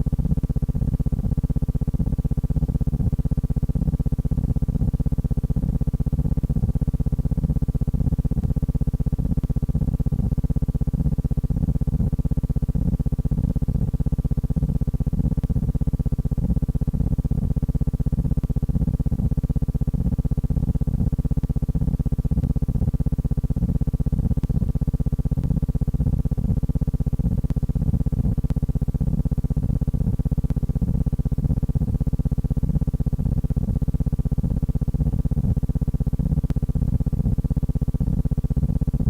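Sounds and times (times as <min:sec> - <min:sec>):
low pulsing electrical buzz: 0:00.0 - 0:39.0.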